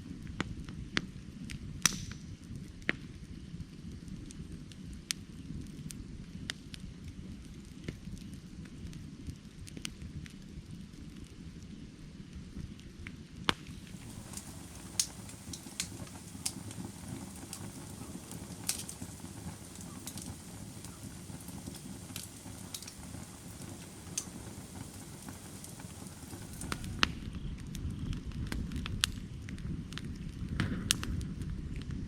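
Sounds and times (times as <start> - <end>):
firewood burning with crackles: 0.0 - 32.0.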